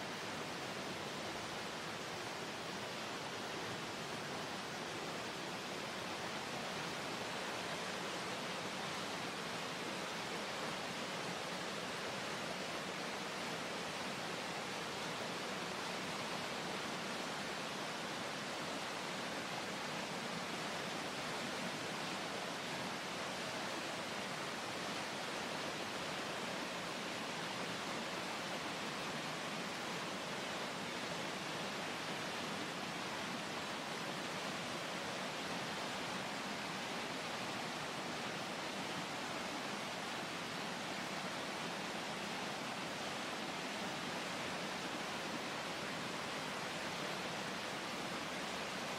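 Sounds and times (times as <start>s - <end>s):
creek water roaring over rapids: 0.0s - 48.9s.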